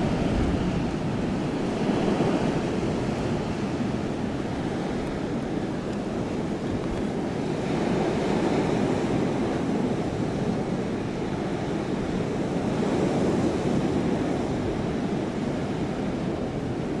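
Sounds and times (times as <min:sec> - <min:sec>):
blizzard wind blowing hard: 0:00.0 - 0:17.0.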